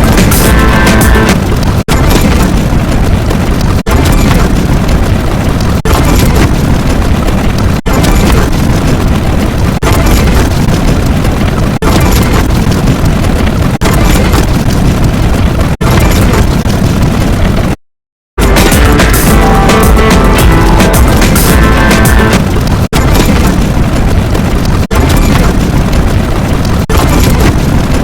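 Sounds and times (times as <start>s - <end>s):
rumbling explosions: 0.0s - 17.8s, 18.4s - 28.0s.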